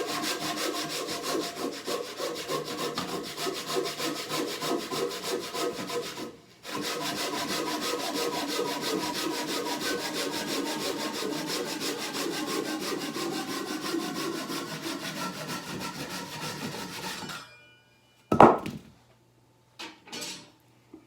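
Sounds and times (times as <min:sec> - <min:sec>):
hand saw cutting wood: 0:00.0 - 0:17.4.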